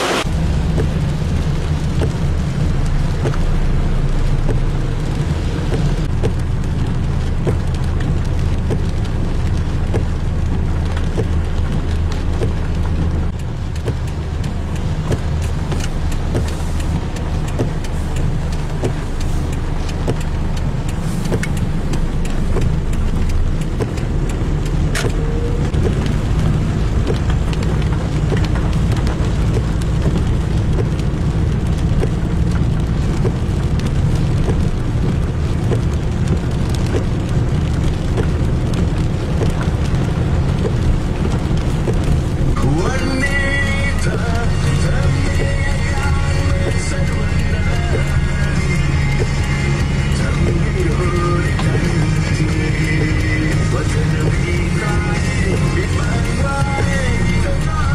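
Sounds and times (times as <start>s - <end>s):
engine and tyres rumbling: 0.0s - 57.9s
raindrops ticking on car: 0.0s - 57.9s.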